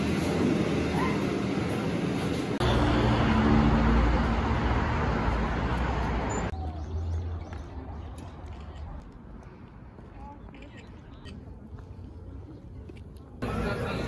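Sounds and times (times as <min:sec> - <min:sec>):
outdoor ambience: 0:00.0 - 0:14.0
road traffic rumble: 0:00.0 - 0:14.0.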